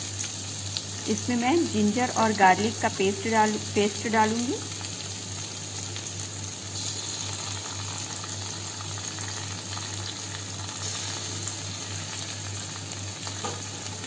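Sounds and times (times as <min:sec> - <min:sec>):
onion sizzling in oil: 0:00.0 - 0:14.0.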